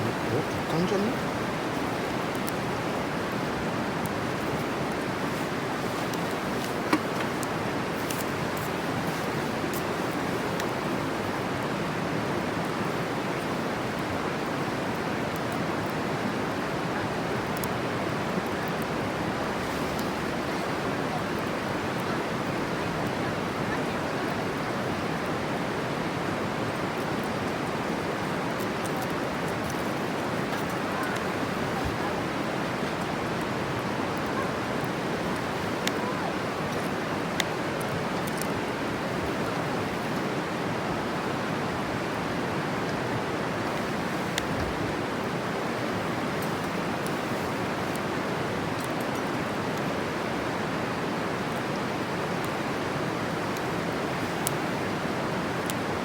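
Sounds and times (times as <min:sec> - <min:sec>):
bonfire crackling and popping: 0:00.0 - 0:23.6, 0:24.4 - 0:56.0.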